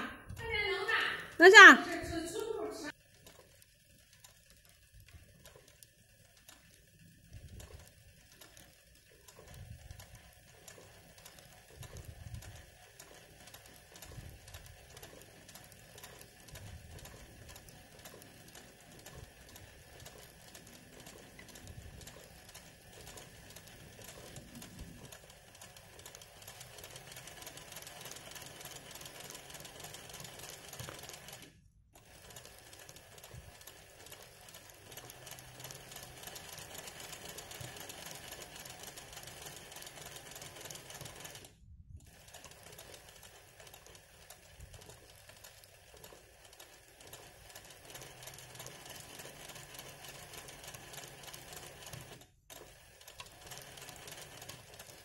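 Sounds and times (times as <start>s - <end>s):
sewing machine stitching: 0.3s - 55.0s.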